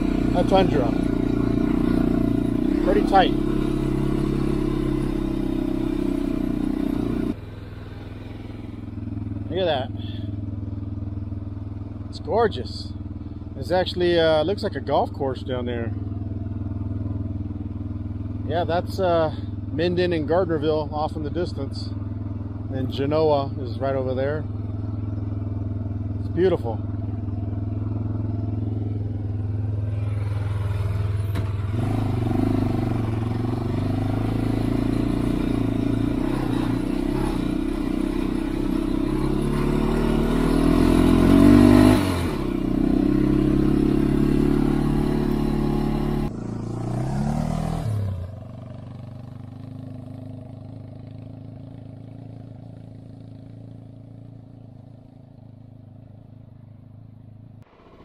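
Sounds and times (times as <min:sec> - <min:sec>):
quad bike engine revving: 0:00.0 - 0:54.6.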